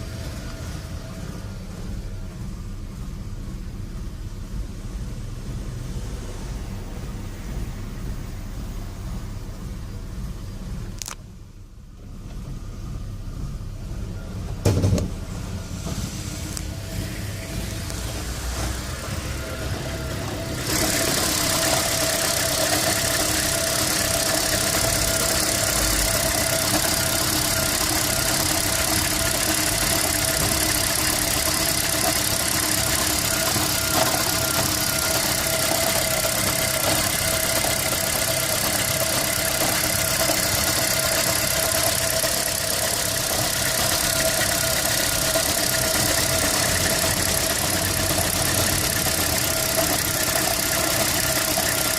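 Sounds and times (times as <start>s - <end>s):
car engine idling with misfire: 0.0s - 51.9s.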